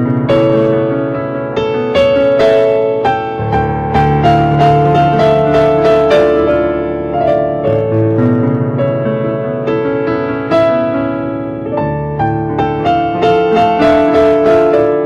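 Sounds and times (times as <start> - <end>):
slow keyboard music: 0.0 - 15.0.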